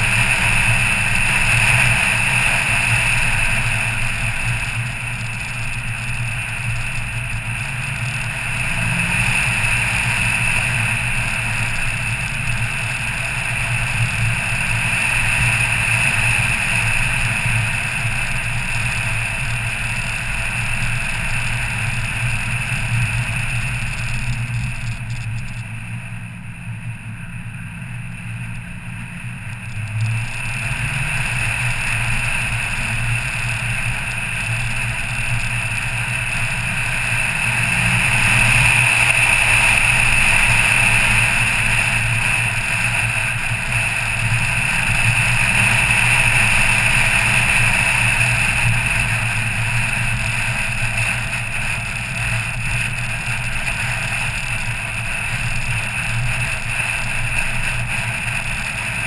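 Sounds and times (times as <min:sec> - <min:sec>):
car engine running: 0:00.0 - 0:59.0
tyre and road noise: 0:00.0 - 0:59.0.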